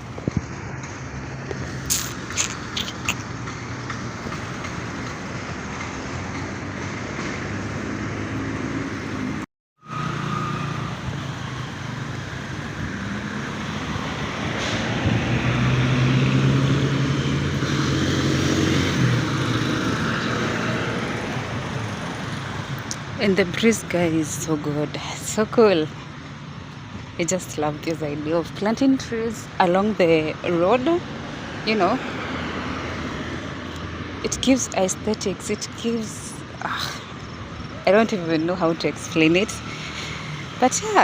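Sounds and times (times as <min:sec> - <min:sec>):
vehicle engines: 0:00.0 - 0:41.0.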